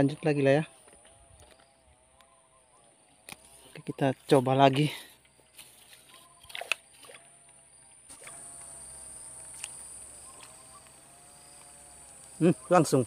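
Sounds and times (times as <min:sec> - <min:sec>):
faint steady hum: 0:00.0 - 0:13.0
insects buzzing: 0:00.0 - 0:13.0.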